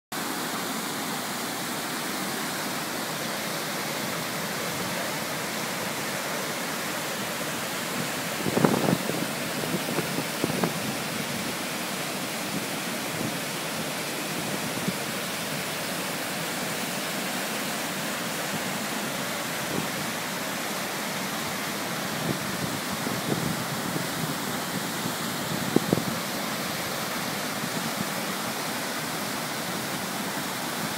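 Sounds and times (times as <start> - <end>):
river water rushing over weir: 0.2 - 30.9.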